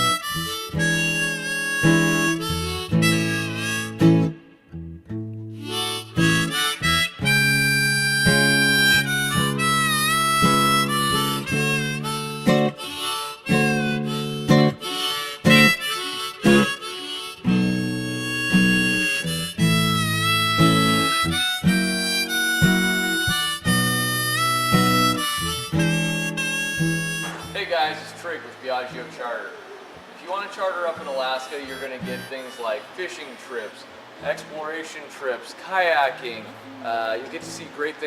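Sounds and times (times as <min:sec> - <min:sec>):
blues harmonica: 0:00.0 - 0:29.2, 0:30.8 - 0:34.5
acoustic guitar: 0:00.0 - 0:38.0.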